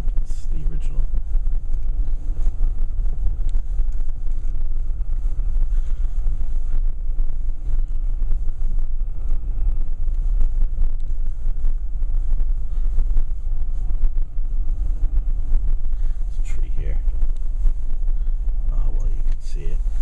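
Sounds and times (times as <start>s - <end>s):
car driving rumble: 0.0s - 20.0s.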